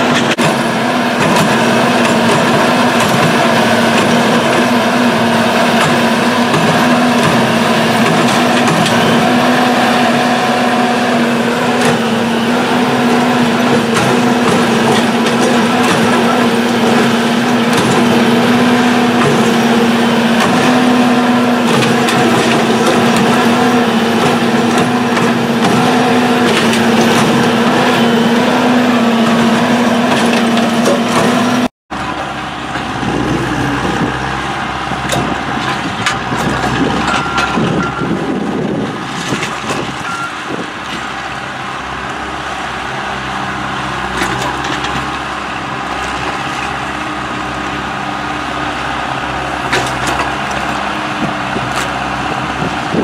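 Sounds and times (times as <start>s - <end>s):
crane engine running: 0.0s - 53.0s
engine and hydraulics droning: 0.0s - 53.0s.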